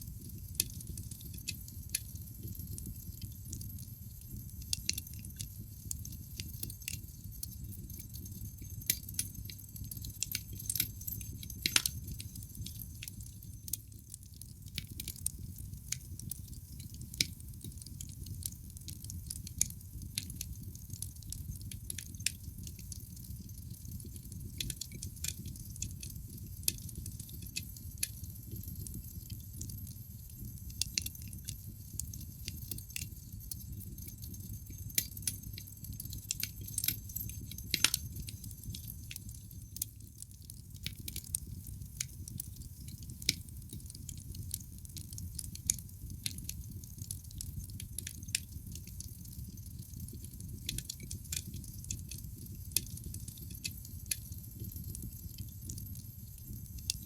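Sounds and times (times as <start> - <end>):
logs crackling in fireplace: 0.0 - 57.0
low rumble of flames: 0.1 - 57.0.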